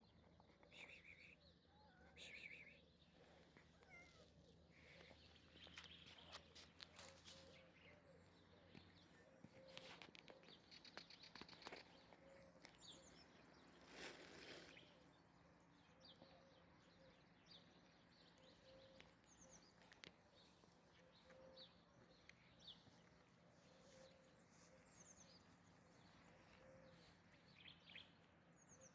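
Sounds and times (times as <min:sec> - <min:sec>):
distant birds chirping: 0:00.0 - 0:28.9.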